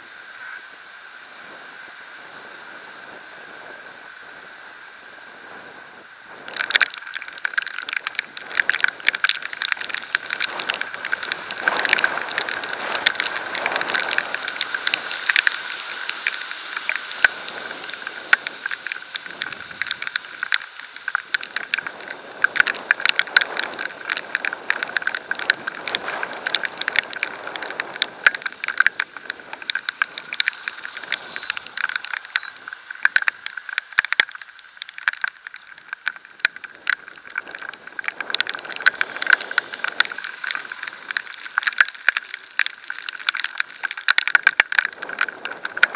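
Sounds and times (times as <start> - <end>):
wet road noise: 0.0 - 45.9
wind hiss: 0.0 - 45.9
raindrops striking camera: 5.1 - 45.9.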